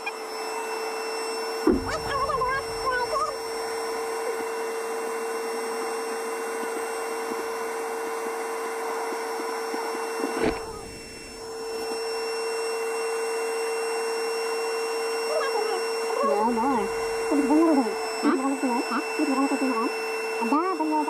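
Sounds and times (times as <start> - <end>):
electric blower motor humming: 0.0 - 21.0.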